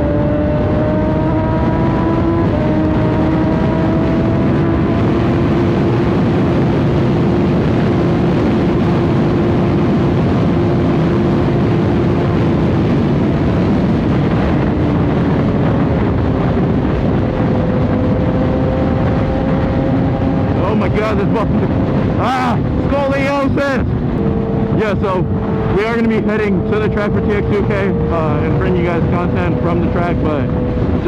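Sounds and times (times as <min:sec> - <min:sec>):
motorcycle engine cruising: 0:00.0 - 0:31.0
wind rushing on microphone: 0:00.0 - 0:31.0.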